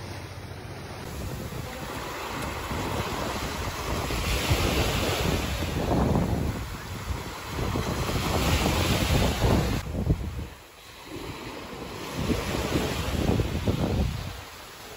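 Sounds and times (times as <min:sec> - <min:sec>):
sea waves washing onto shore: 0:00.0 - 0:14.9
wind rumbling on microphone: 0:00.7 - 0:14.9.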